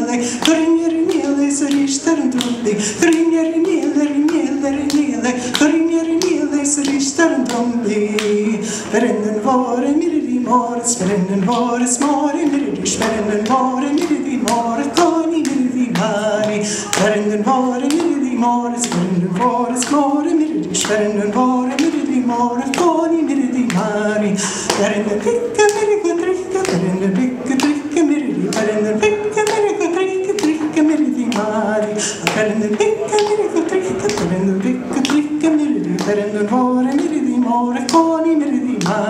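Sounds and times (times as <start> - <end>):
woman singing unaccompanied: 0.0 - 39.0.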